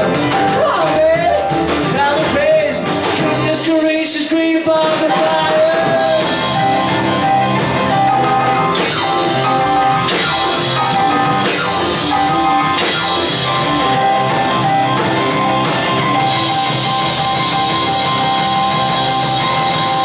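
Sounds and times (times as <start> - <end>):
drum kit steady beat: 0.0 - 20.0
electric bass: 0.0 - 20.0
held lead notes: 0.0 - 20.0
keyboards: 0.0 - 20.0.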